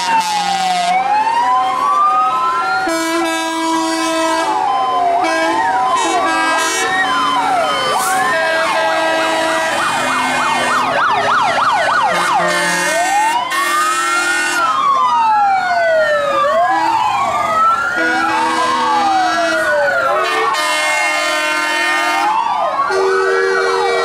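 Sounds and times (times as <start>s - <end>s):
fast warbling siren: 0.0s - 24.0s
fire truck sirens wailing: 0.0s - 24.0s.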